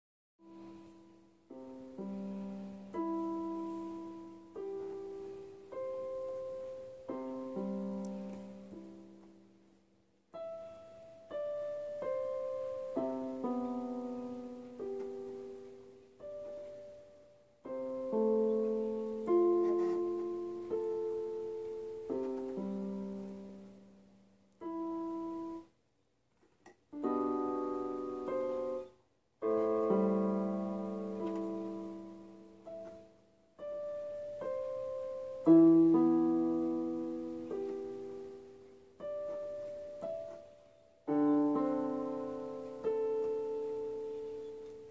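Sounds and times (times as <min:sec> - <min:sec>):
electronic keyboard piano notes: 0:00.4 - 0:09.6, 0:10.3 - 0:25.7, 0:26.9 - 0:44.9.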